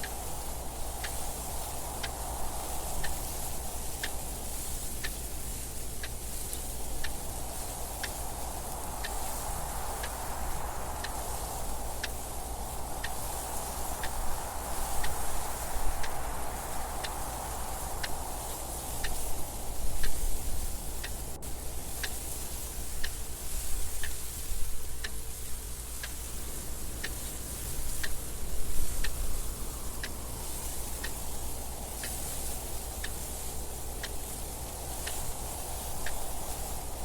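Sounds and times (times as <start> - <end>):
clock ticking: 0.0 - 5.2, 6.0 - 10.2, 10.9 - 37.0
wind noise in gusts: 0.0 - 37.0.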